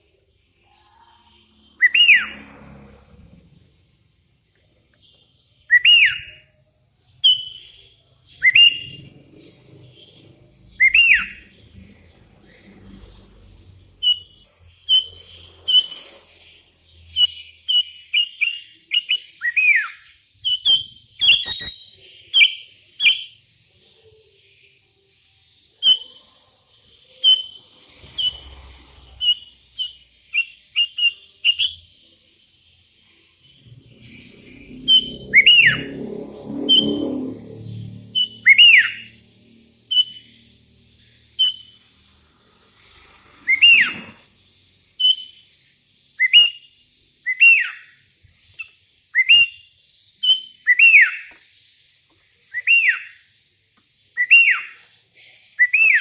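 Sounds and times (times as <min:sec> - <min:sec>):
bird singing whistled notes: 0:00.0 - 0:03.0, 0:05.0 - 0:13.3, 0:13.9 - 0:24.8, 0:25.6 - 0:56.0.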